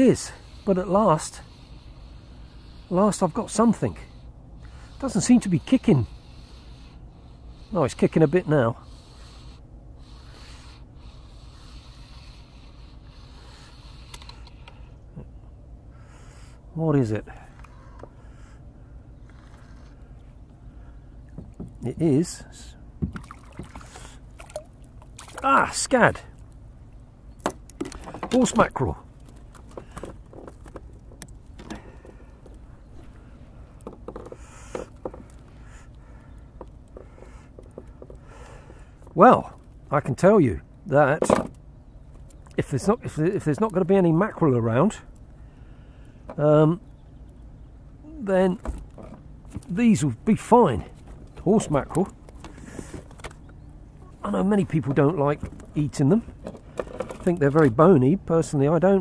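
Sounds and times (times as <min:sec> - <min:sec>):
faint rumble and hiss of sea: 0:00.0 - 0:59.0.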